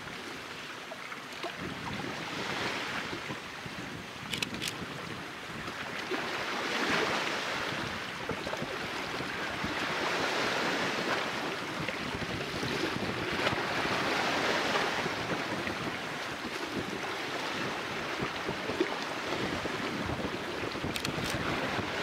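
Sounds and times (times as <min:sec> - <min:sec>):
sea waves washing on shore: 0:00.0 - 0:22.0.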